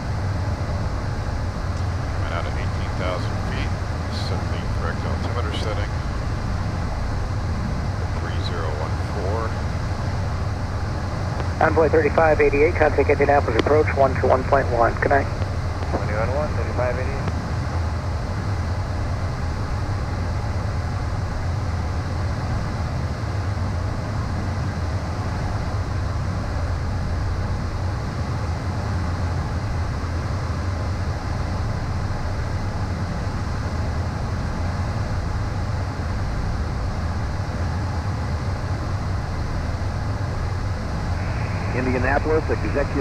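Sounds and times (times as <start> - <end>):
jet cockpit drone: 0.0 - 43.0.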